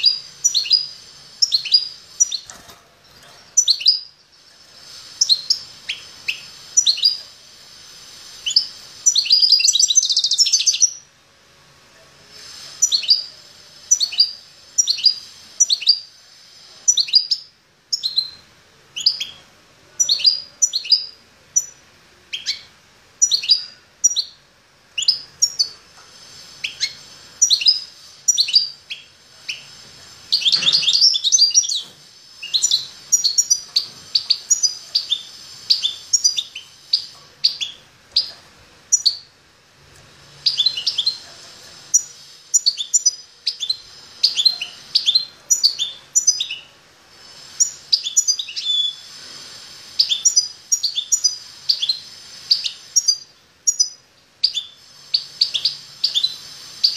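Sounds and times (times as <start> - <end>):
finch chirping: 0.0 - 11.0, 12.5 - 18.4, 19.0 - 39.3, 40.4 - 56.9.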